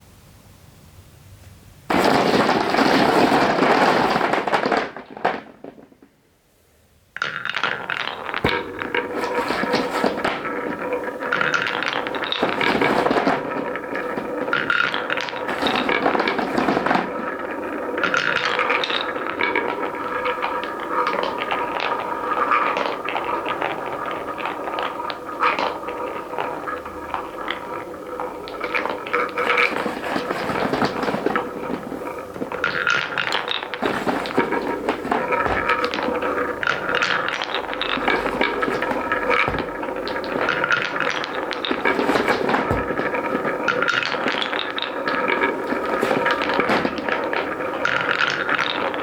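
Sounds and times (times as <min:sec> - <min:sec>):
balls rattling down wooden track: 0:01.9 - 0:06.2, 0:07.2 - 0:49.0.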